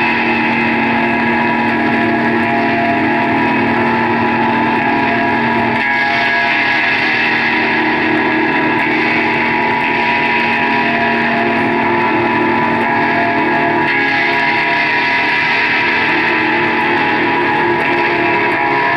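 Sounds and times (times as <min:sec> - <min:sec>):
band playing droning tones: 0:00.0 - 0:18.9.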